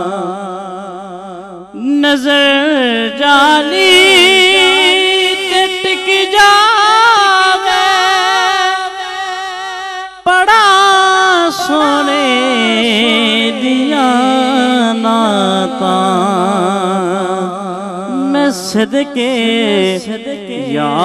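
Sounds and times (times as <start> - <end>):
man singing melismatic line: 1.8 - 9.2, 10.2 - 21.0.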